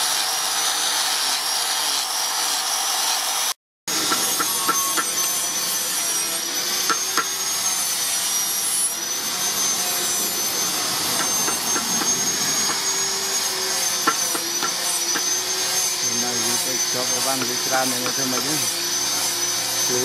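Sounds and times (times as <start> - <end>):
angle grinder whining: 0.0 - 20.0.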